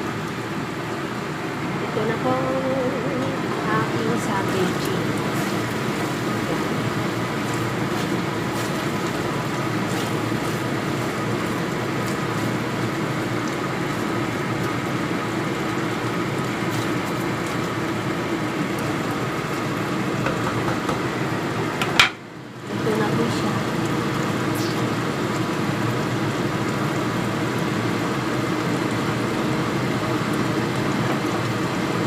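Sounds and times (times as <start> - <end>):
food simmering in a pan: 0.0 - 2.3, 3.0 - 32.0.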